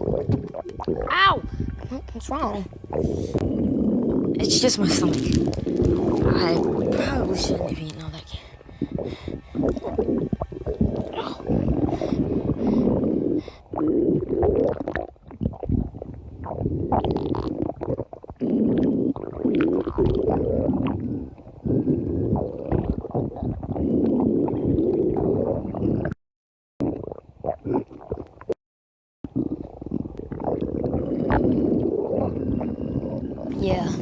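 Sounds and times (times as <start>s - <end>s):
stomach growling: 0.0s - 26.2s, 26.8s - 28.6s, 29.3s - 34.0s.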